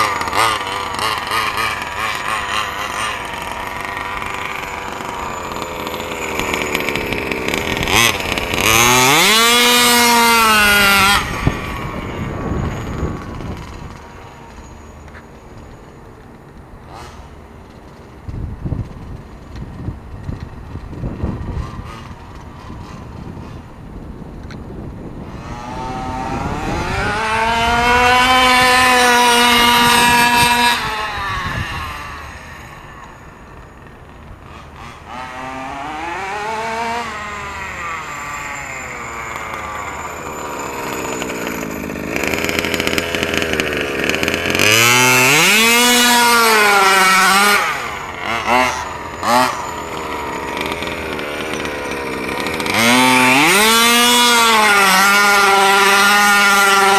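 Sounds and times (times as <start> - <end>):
small two-stroke engine revving: 0.0 - 56.9.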